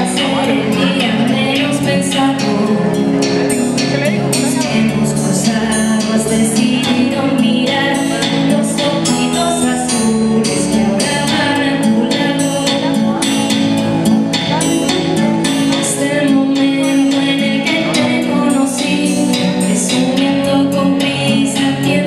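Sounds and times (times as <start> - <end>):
amplified music with steady beat: 0.0 - 22.0
woman singing into microphone: 0.0 - 22.0.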